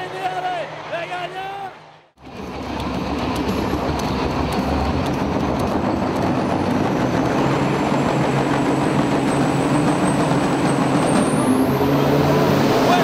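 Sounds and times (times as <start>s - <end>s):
truck diesel engines rumbling: 0.0s - 13.0s.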